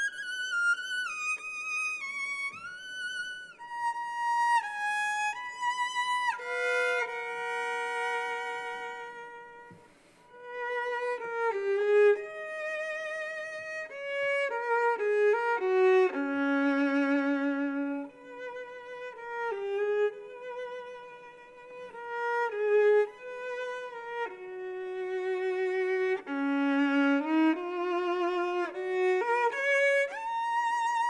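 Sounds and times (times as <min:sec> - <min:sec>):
solo violin melody: 0:00.0 - 0:31.0.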